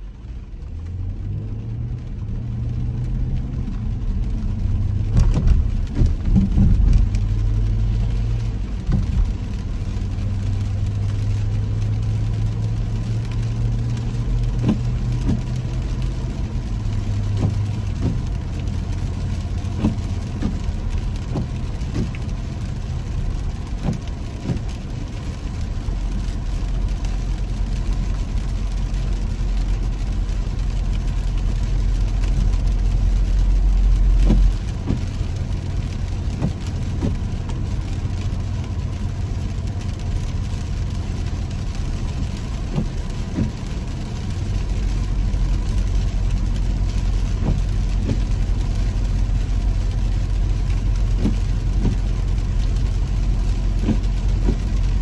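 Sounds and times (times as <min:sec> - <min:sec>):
car engine and tyres on wet road: 0:00.0 - 0:55.0.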